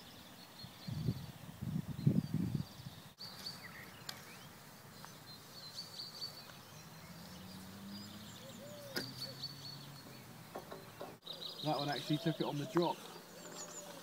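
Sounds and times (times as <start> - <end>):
faint outdoor hiss: 0.0 - 14.0
small birds chirping and trilling: 0.0 - 14.0.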